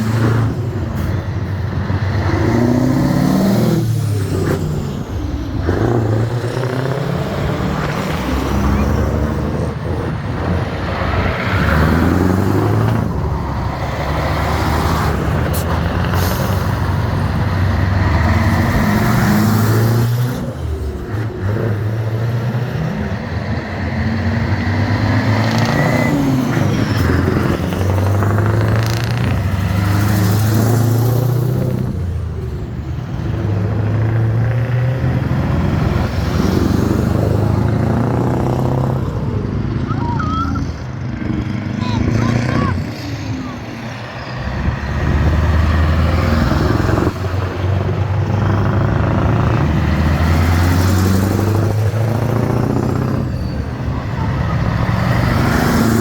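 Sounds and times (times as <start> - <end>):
old truck engines passing: 0.0 - 56.0.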